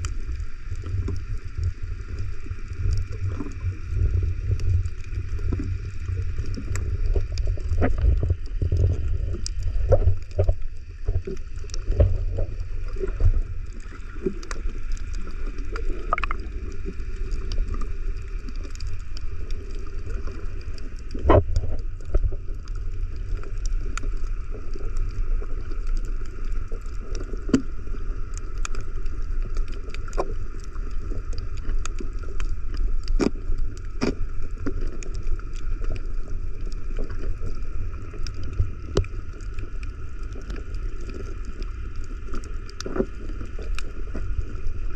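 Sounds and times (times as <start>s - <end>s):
underwater low rumble: 0.0s - 44.9s.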